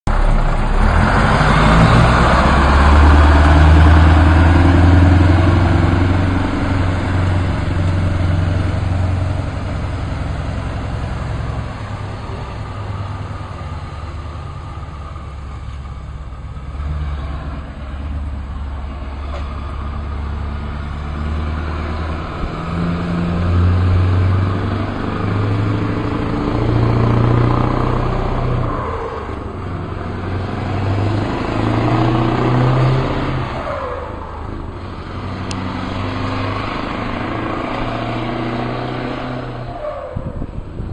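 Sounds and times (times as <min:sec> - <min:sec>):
diesel truck engine running: 0:00.1 - 0:40.9.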